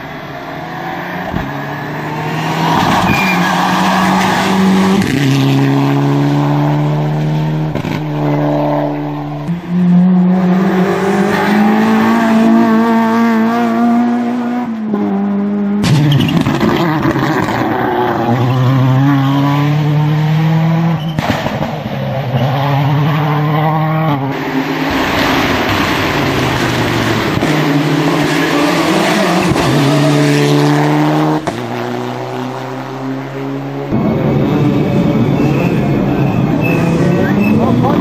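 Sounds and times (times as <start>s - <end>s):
rally car engines revving: 0.0s - 38.0s.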